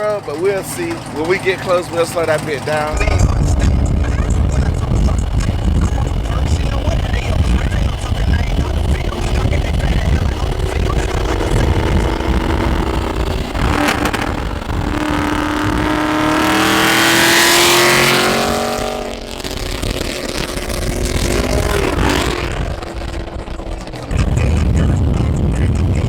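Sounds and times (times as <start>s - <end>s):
car engine accelerating hard: 0.0s - 26.0s
wind rumble: 2.9s - 26.0s.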